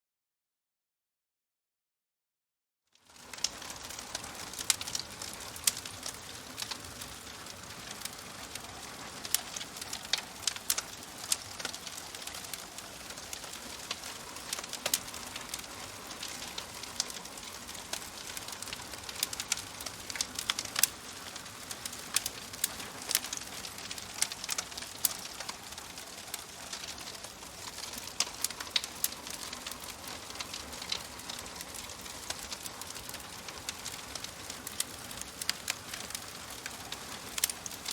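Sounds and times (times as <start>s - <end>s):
wood fire crackling: 2.9s - 37.9s.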